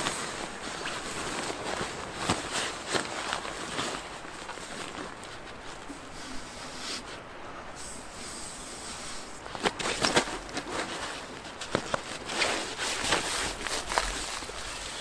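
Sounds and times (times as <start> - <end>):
dry leaves rustling: 0.0 - 7.2, 8.9 - 15.0
nylon pads rubbing and rustling: 0.0 - 15.0.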